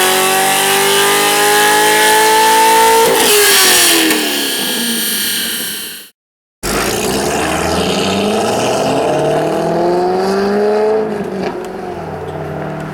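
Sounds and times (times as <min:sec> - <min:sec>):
sports car engine accelerating: 0:00.0 - 0:04.6, 0:06.6 - 0:12.9.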